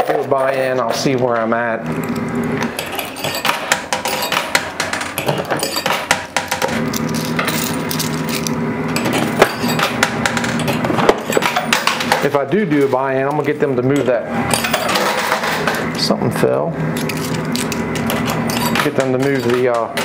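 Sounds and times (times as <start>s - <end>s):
coins clinking in coin pusher: 2.0s - 15.9s, 16.9s - 20.0s.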